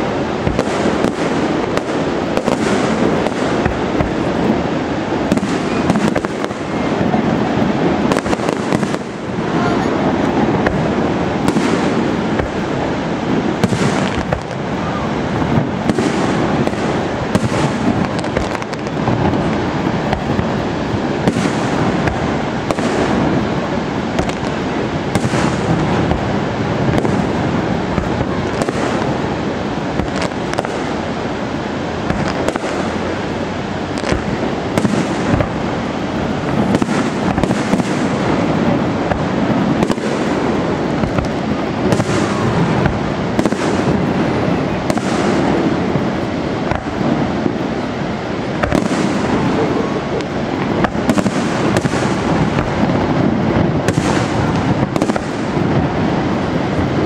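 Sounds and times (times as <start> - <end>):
firework shells bursting: 0.0 - 31.3, 32.0 - 57.0.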